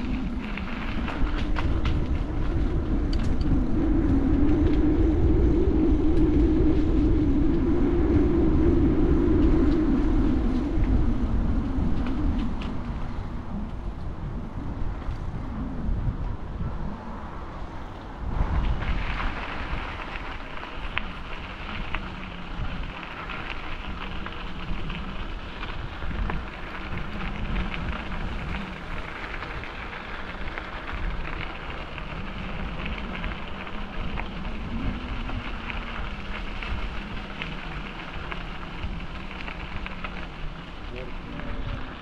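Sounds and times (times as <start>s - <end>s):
bicycle tyres on rough path: 0.0s - 42.0s
wind noise on microphone: 0.0s - 42.0s.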